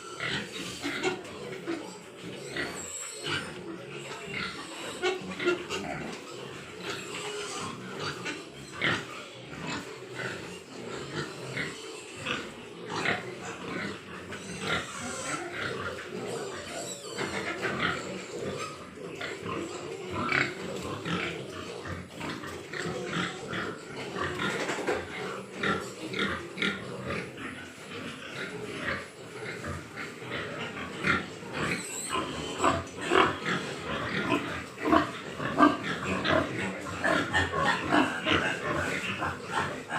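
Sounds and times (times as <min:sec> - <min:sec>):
pigs grunting and squealing: 0:00.0 - 0:39.9.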